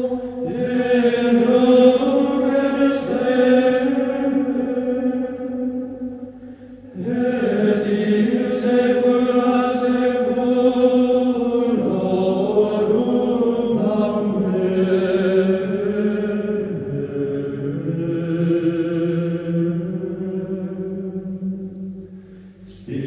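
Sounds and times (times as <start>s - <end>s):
chanted singing with held notes: 0.0s - 23.0s.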